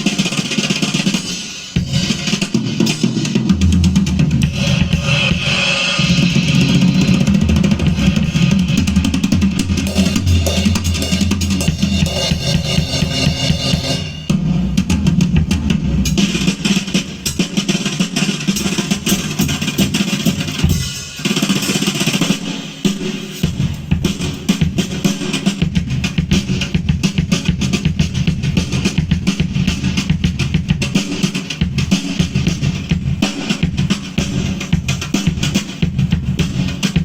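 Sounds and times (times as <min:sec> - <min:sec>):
music with drum kit: 0:00.0 - 0:37.0.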